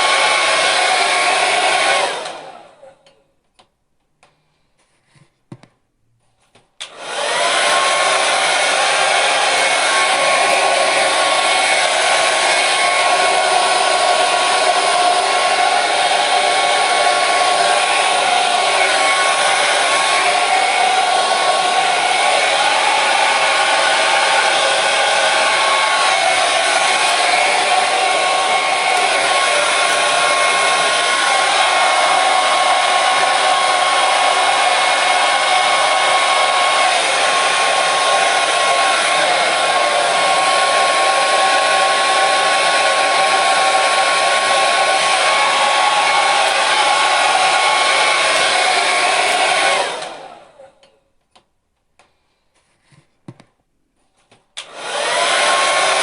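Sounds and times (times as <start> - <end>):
hair dryer blowing: 0.0 - 3.2, 6.8 - 50.9, 54.6 - 56.0.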